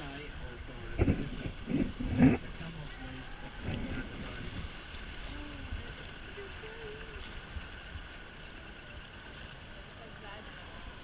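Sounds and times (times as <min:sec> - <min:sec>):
boat motor rumble: 0:00.0 - 0:11.0
water against hull: 0:00.0 - 0:11.0
wind: 0:00.0 - 0:11.0.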